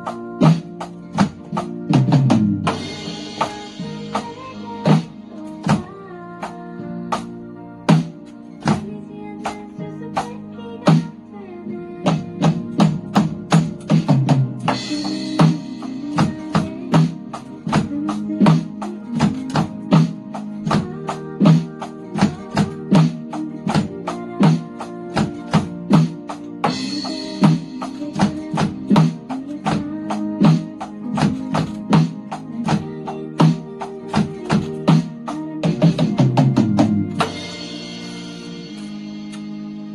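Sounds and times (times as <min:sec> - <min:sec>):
electronic drum kit beat: 0:00.0 - 0:11.3, 0:11.9 - 0:39.9
recorded pop ballad: 0:00.0 - 0:39.9.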